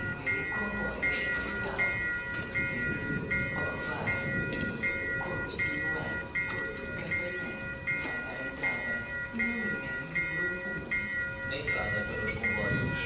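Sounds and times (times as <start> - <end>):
railway warning beeps: 0.0 - 13.0
steady warning tone: 0.0 - 13.0.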